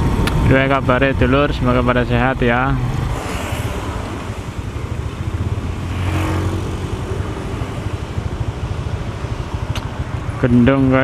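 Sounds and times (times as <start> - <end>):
road noise: 0.0 - 11.0
scooter engine drone: 0.0 - 11.0.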